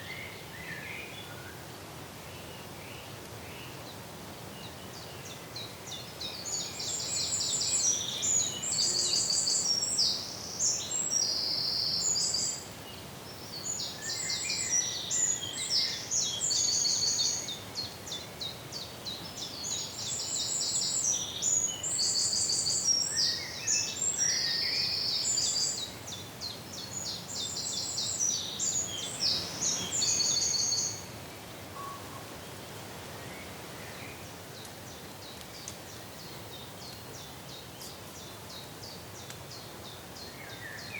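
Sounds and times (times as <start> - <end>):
songbird singing trills: 2.3 - 31.1, 31.7 - 32.3, 33.1 - 40.9.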